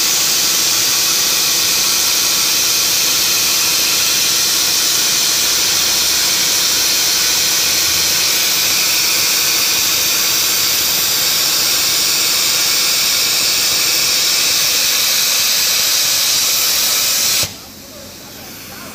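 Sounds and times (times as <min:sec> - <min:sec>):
cutting torch gas hiss: 0:00.0 - 0:18.9.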